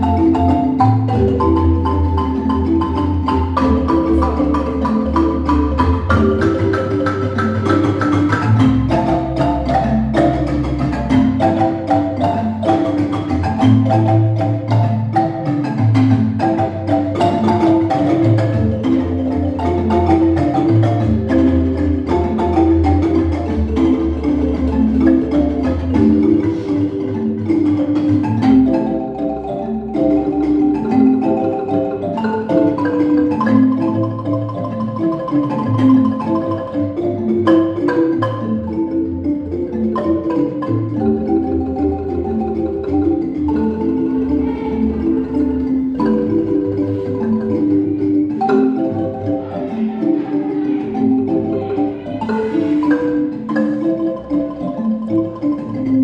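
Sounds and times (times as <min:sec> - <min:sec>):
low marimba bass line: 0:00.0 - 0:56.0
marimba melody: 0:00.0 - 0:56.0.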